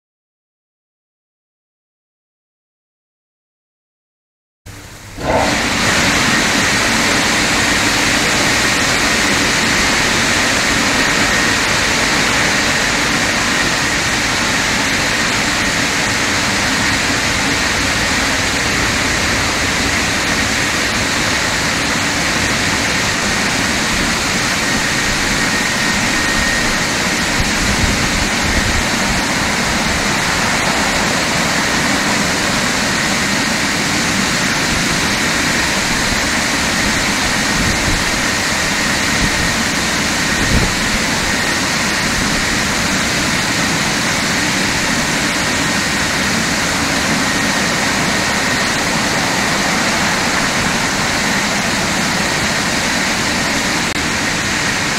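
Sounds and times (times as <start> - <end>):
dryer blowers rushing air: 4.7 - 54.9
high whine: 4.7 - 54.9.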